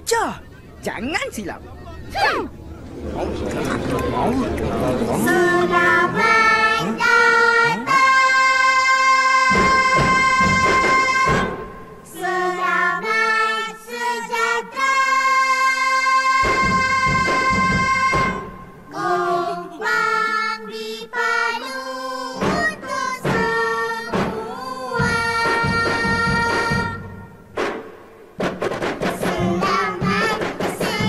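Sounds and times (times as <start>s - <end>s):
children singing: 3.4s - 27.1s, 29.1s - 31.0s.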